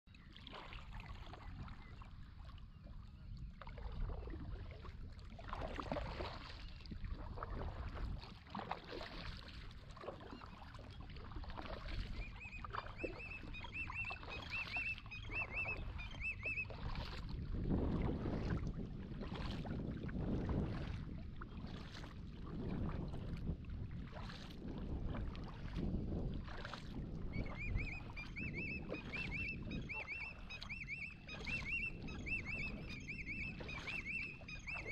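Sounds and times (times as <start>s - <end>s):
paddle splashing in water: 0.2s - 34.9s.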